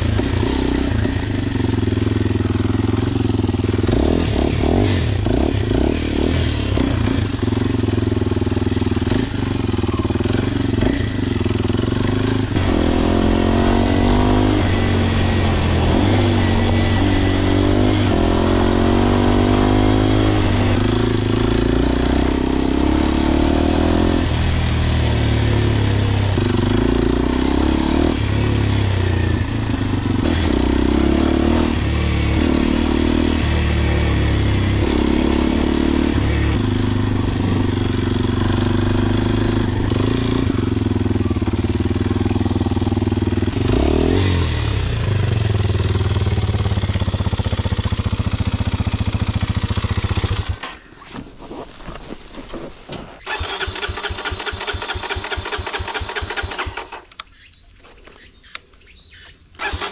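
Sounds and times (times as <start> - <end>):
motorcycle engine revving: 0.0 - 50.9, 53.2 - 59.9.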